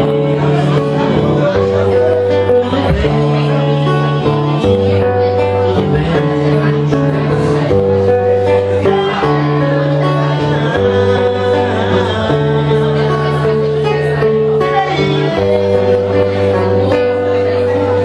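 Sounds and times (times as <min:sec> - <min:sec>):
acoustic guitar strumming: 0:00.0 - 0:18.0
man singing: 0:00.0 - 0:18.0.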